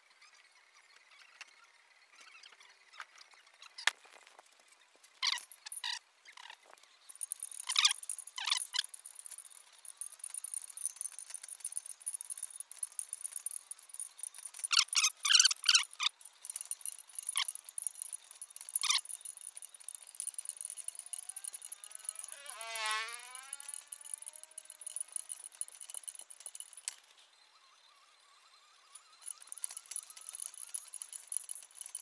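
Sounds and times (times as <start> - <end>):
spoke nipples squeaking: 3.6 - 27.1, 29.0 - 32.0.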